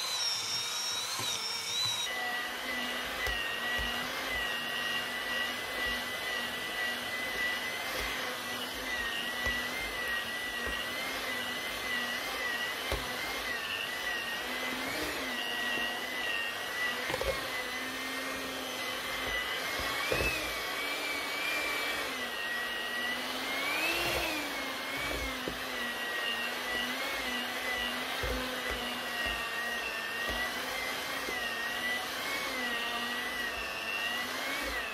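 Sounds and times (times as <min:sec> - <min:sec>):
electric mixer motor whining: 0:00.0 - 0:34.9.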